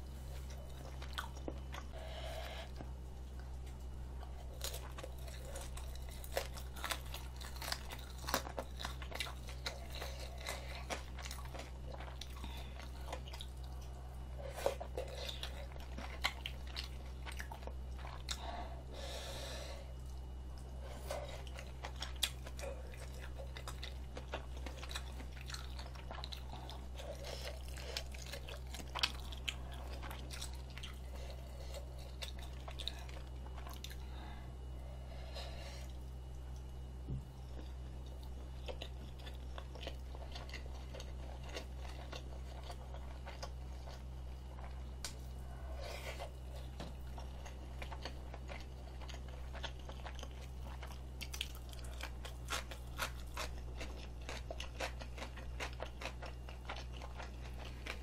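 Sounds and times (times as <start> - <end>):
chewing and crunching food: 0.0 - 58.0
steady low hum: 0.0 - 58.0.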